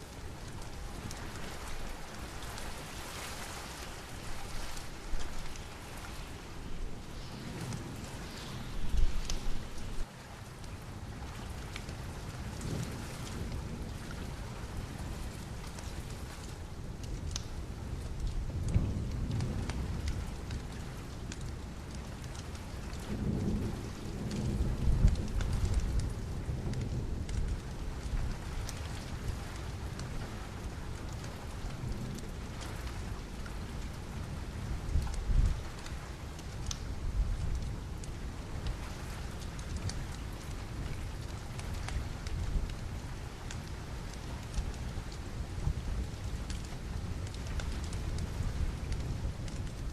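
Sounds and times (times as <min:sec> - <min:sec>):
wood fire crackling: 0:00.0 - 0:11.0, 0:14.5 - 0:23.3, 0:24.4 - 0:49.9
steady rain: 0:00.0 - 0:49.9.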